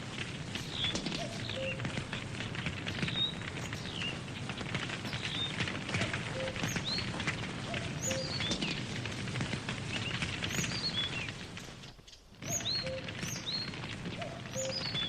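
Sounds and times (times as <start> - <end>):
birds chirping: 0.0 - 15.0
campfire crackling and popping: 0.0 - 15.0.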